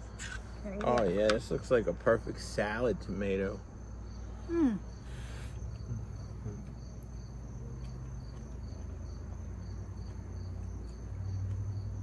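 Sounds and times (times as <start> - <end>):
insect rhythmic chirp: 0.0 - 12.0
insects trilling: 0.0 - 12.0
steady low hum: 1.4 - 12.0.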